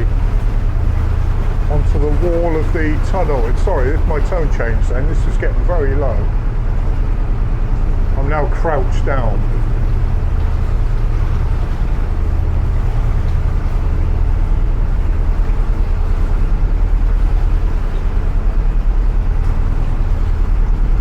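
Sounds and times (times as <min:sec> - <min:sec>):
boat engine low hum: 0:00.0 - 0:21.0.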